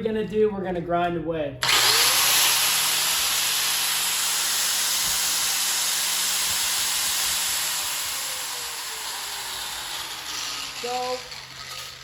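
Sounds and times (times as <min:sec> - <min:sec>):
electric grinder running: 0:01.6 - 0:12.0.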